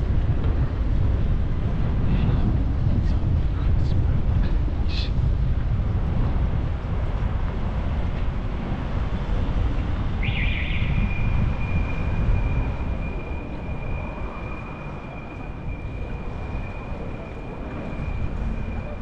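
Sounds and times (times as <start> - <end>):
passing traffic: 0.0 - 19.0
wind on microphone: 0.0 - 19.0.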